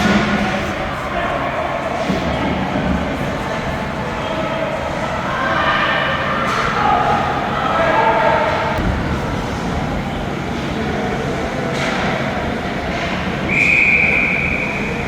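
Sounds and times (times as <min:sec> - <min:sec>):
skates and crowd rumble: 0:00.0 - 0:15.0.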